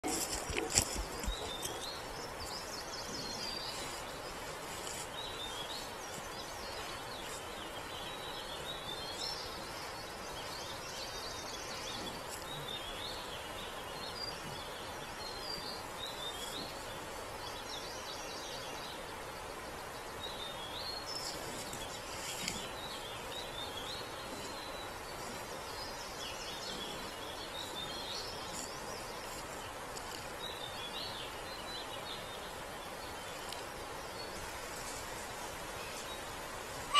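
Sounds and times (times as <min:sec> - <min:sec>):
forest birds chirping: 0:00.0 - 0:36.9
microphone hiss: 0:00.0 - 0:36.9.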